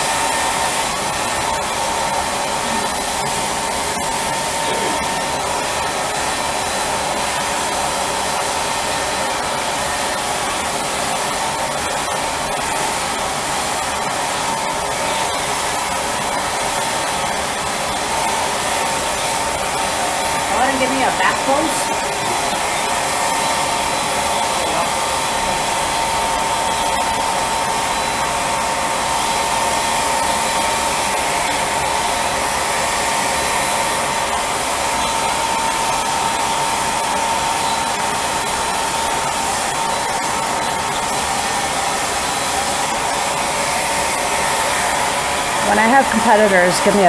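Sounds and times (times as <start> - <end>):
hair dryer blowing: 0.0 - 47.0.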